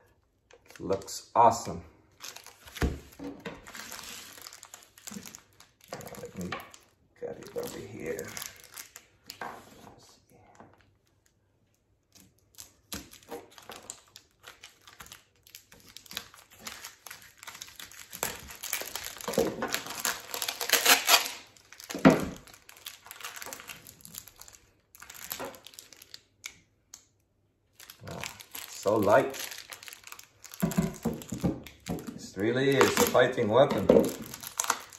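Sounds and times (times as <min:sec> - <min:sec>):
plastic wrapping crinkling: 0:02.1 - 0:09.4, 0:10.7 - 0:26.6, 0:27.6 - 0:34.9.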